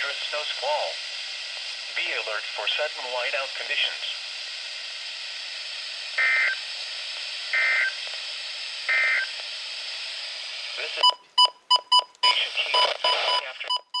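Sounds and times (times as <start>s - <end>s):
radio static hiss: 0.0s - 11.3s, 12.2s - 13.8s.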